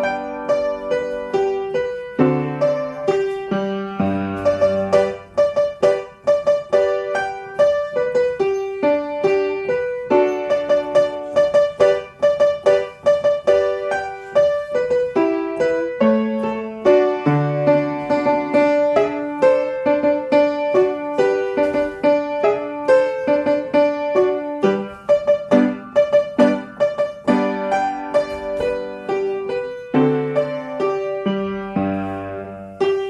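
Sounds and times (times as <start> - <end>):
piano accompaniment: 0.0 - 33.0.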